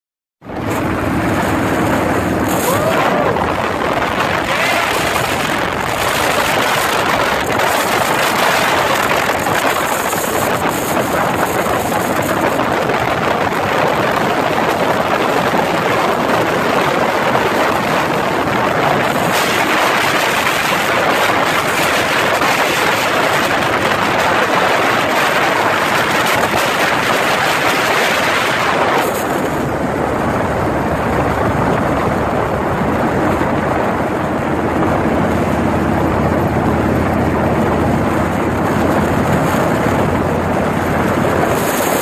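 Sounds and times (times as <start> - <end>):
motorcycle engine: 0.4 - 42.0
road noise: 0.4 - 42.0
wind rushing over microphone: 0.4 - 42.0.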